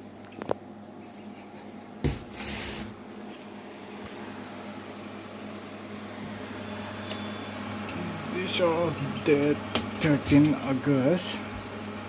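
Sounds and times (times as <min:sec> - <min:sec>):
incubator low hum: 0:00.0 - 0:12.0.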